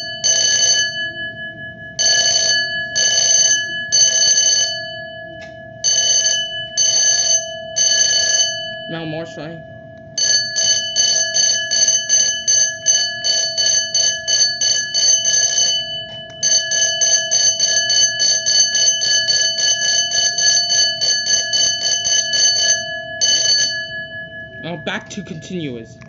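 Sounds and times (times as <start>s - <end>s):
electric alarm bell ringing: 0.0s - 26.0s.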